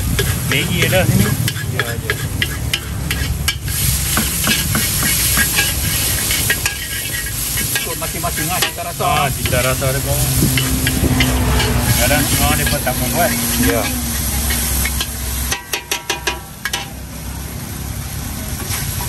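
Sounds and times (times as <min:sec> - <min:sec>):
metal spatula scraping a wok: 0:00.0 - 0:17.0
frying sizzle: 0:00.0 - 0:19.0.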